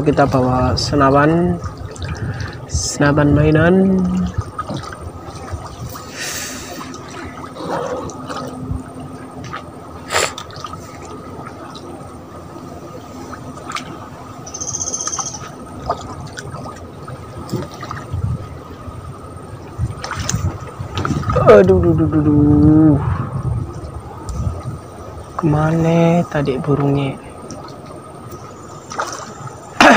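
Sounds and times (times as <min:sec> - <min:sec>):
water lapping against a boat hull: 0:00.0 - 0:29.9.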